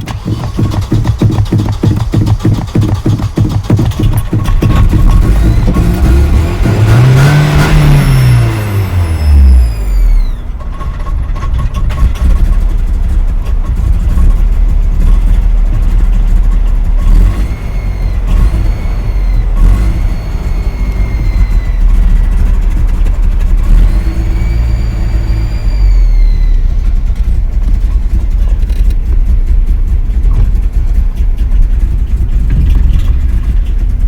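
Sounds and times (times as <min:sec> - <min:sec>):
car engine revving unevenly: 0:00.0 - 0:34.0.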